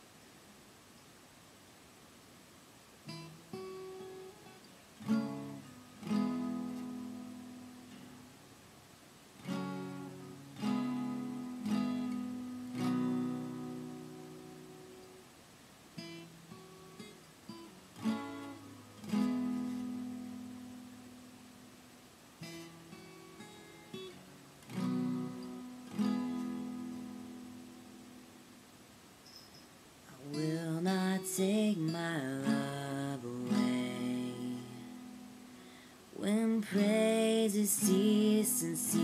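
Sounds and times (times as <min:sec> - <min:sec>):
acoustic guitar playing: 0:03.0 - 0:39.0.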